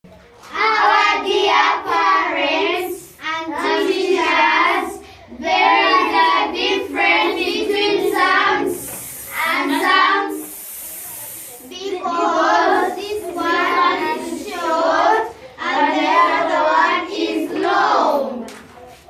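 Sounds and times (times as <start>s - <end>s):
children singing in unison: 0.5s - 10.6s, 11.7s - 18.4s.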